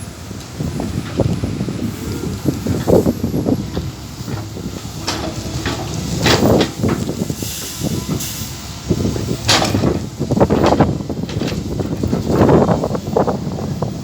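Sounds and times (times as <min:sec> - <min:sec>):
backhoe engine under load: 0:00.0 - 0:14.0
loud hissing surges: 0:00.0 - 0:14.0.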